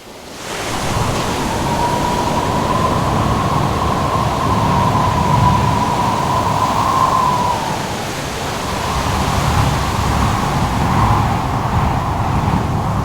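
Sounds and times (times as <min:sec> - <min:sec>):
crashing surf: 0:00.3 - 0:13.0
howling wind whistling: 0:00.3 - 0:13.0.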